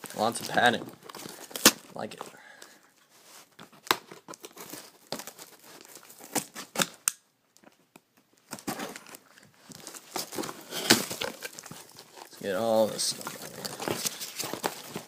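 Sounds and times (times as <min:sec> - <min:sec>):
packing padding crinkling: 0:00.0 - 0:15.0.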